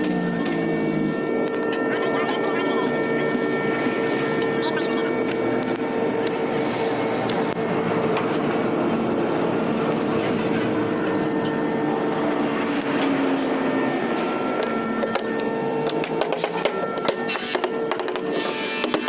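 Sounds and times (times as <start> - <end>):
cnc router whining: 0.0 - 19.0.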